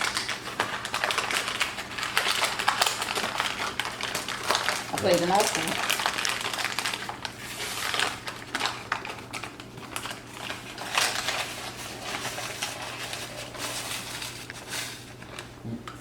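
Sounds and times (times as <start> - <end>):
packaging clicking and crinkling: 0.0 - 16.0.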